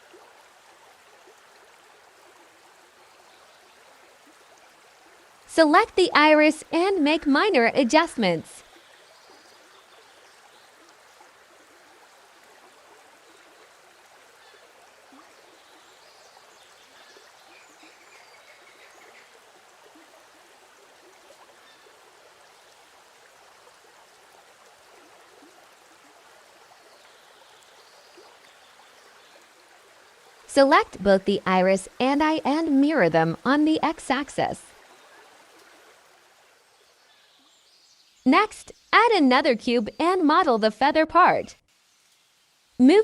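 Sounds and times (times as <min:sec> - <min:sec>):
faint steady hiss: 0:00.0 - 0:43.0.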